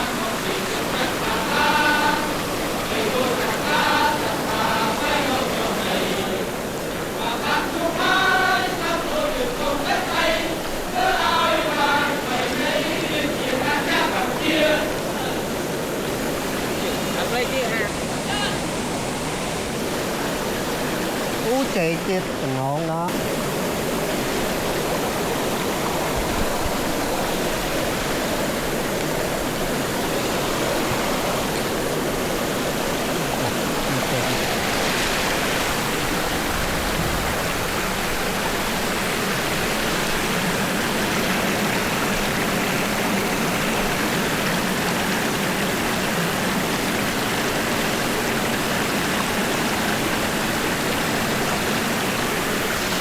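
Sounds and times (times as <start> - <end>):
water rushing: 0.0 - 53.0.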